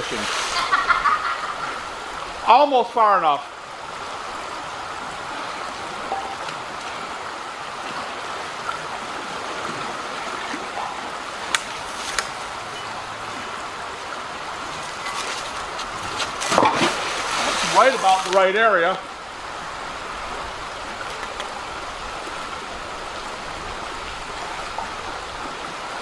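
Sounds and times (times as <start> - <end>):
creek running over rocks: 0.0 - 26.0.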